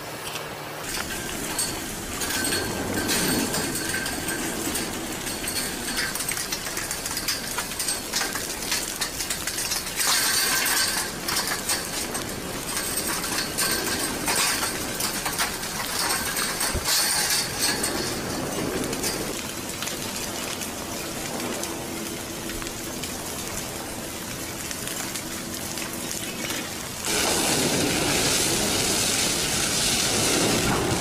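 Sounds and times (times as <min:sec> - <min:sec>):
lava crust crackling and tumbling: 0:00.8 - 0:31.0.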